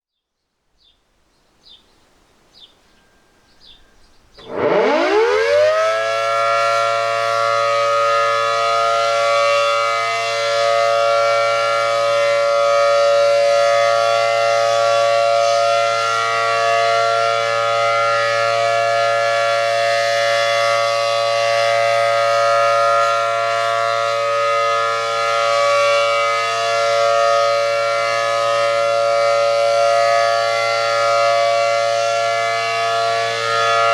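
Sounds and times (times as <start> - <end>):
warning siren winding up: 4.4 - 33.9.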